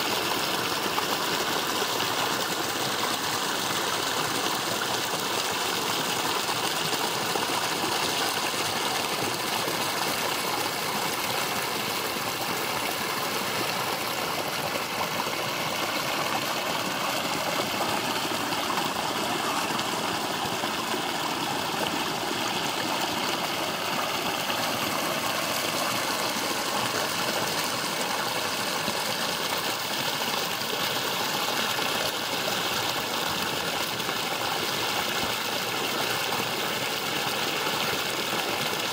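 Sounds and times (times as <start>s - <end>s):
creek water splashing: 0.0s - 36.9s.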